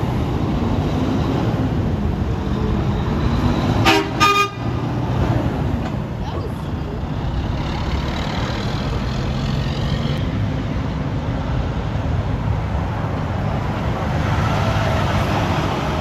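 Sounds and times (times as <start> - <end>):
road traffic noise: 0.0 - 16.0
trucks driving past: 0.0 - 16.0.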